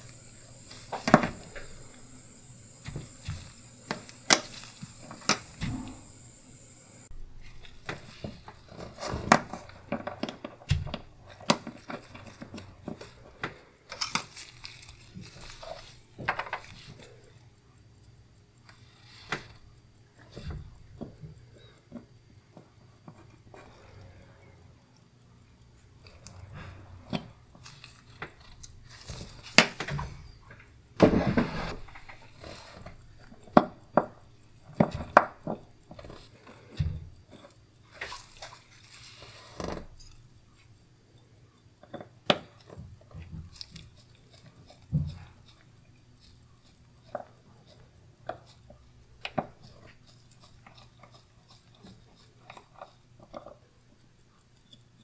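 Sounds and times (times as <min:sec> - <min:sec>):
tweezers clicking on metal: 0:07.1 - 0:31.0, 0:31.8 - 0:55.0.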